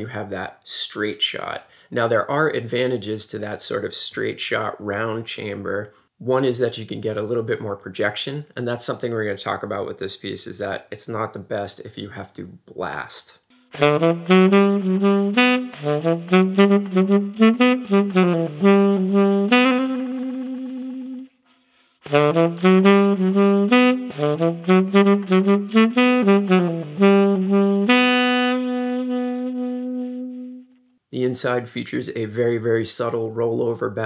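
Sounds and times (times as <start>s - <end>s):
tenor saxophone jazz phrases: 0.0s - 21.4s, 22.0s - 34.0s.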